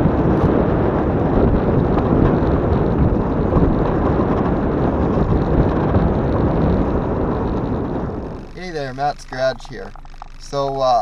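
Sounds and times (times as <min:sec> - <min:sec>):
vehicle rumbling: 0:00.0 - 0:11.0
wind buffeting microphone: 0:00.0 - 0:11.0.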